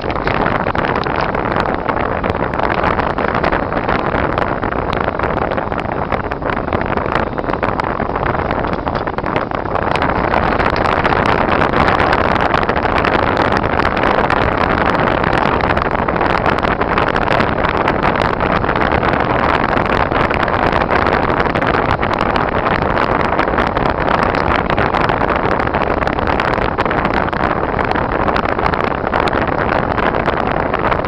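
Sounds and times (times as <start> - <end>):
engine hum: 0.0 - 31.0
tyre noise on icy road: 0.0 - 31.0.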